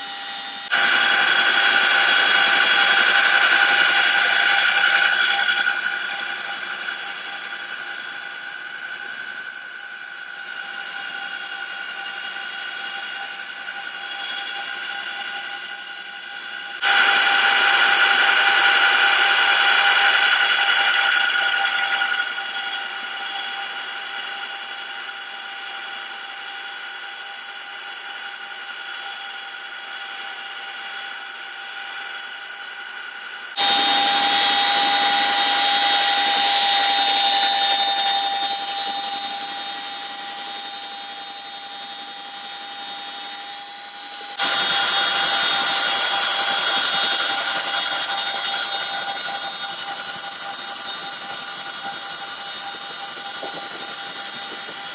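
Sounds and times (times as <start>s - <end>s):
helicopter turbine whine: 0.0s - 54.9s.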